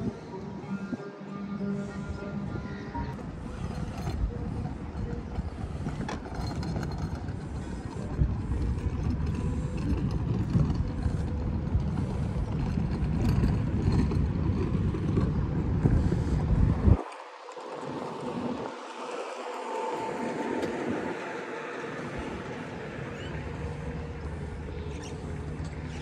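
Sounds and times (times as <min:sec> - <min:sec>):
faint open-air ambience: 0:00.0 - 0:26.0
wind buffeting microphone: 0:00.0 - 0:26.0.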